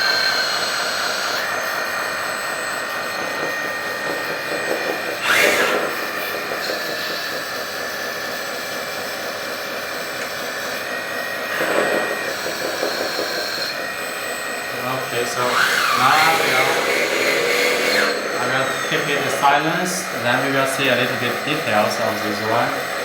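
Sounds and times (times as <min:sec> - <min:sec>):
toy bulldozer hydraulic pump whine: 0:00.0 - 0:23.0.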